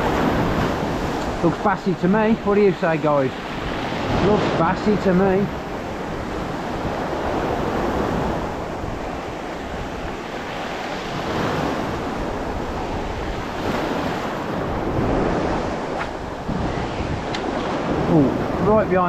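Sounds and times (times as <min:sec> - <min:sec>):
sea waves breaking in surf: 0:00.0 - 0:19.0
wind buffeting microphone: 0:00.0 - 0:19.0.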